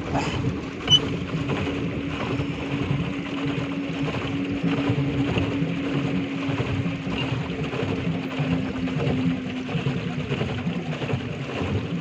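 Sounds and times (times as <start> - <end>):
pedal boat low hum: 0.0 - 12.0
water wash noise: 0.0 - 12.0.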